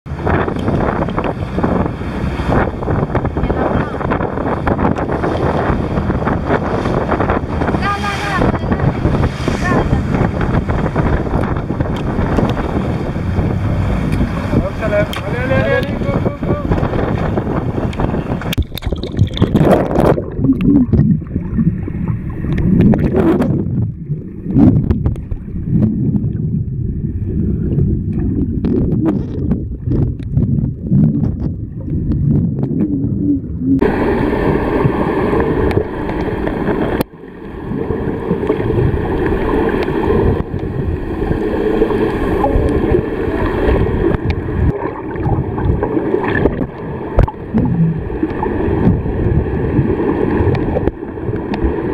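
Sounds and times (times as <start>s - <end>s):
underwater gurgling and bubbling: 0.1s - 51.9s
water lapping: 0.1s - 51.9s
wind: 0.1s - 51.9s.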